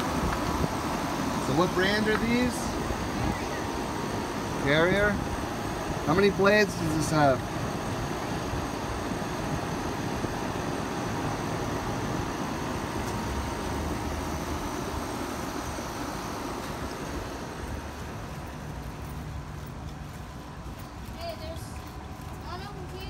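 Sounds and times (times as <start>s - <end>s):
condenser fan whooshing: 0.0s - 23.0s.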